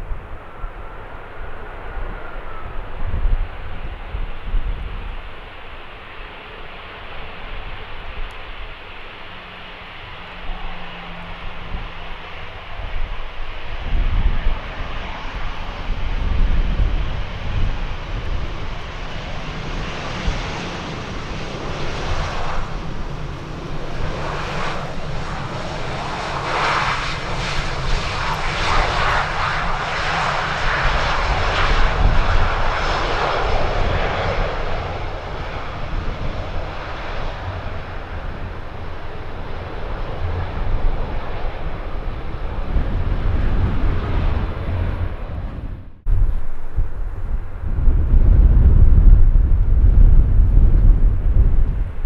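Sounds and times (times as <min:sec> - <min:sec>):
jet airliner engine roar: 0:00.0 - 0:52.0
wind rumble on microphone: 0:00.0 - 0:52.0.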